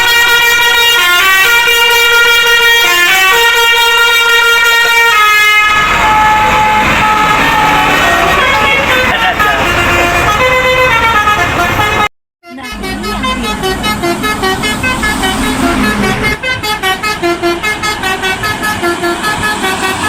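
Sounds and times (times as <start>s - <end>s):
multi-tone bus horn melody: 0.0s - 20.0s.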